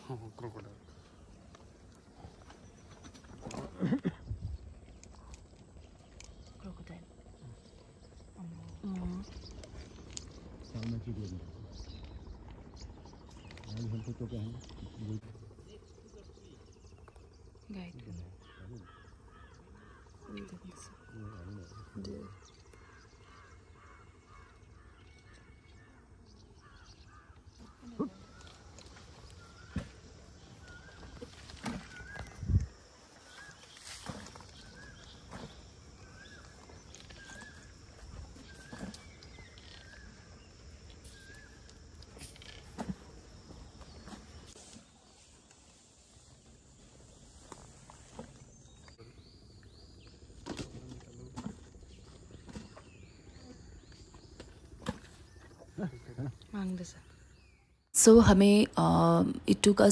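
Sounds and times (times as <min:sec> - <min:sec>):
birds calling: 0:00.0 - 0:59.9
jungle ambience: 0:00.0 - 0:59.9.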